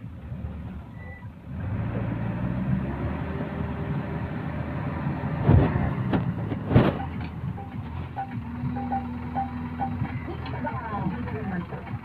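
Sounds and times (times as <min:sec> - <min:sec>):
diesel engines under load: 0:00.0 - 0:12.0.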